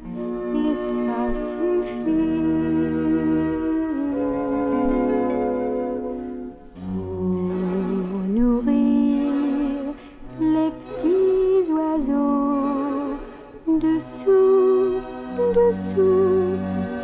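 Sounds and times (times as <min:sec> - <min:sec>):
slow orchestral music: 0:00.0 - 0:17.0.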